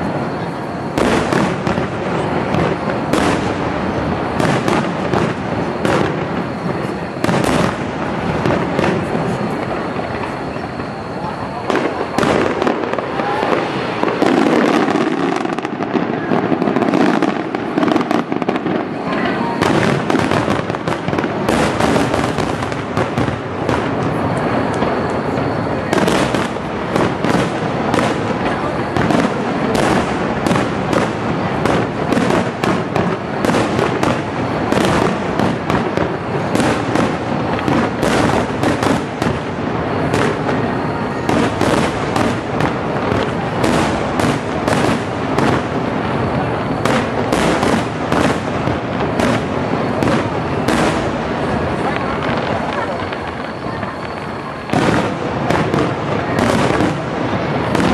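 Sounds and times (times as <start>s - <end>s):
fireworks bursting: 0.0s - 57.9s
fireworks crackle: 0.0s - 57.9s.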